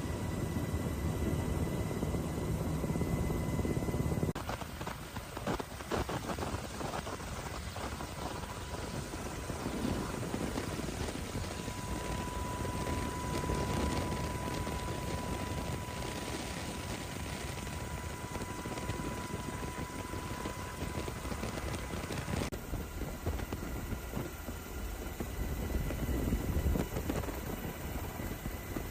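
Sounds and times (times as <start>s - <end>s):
helicopter rotor and engine: 0.0s - 28.9s
thin steady whine: 0.0s - 28.9s.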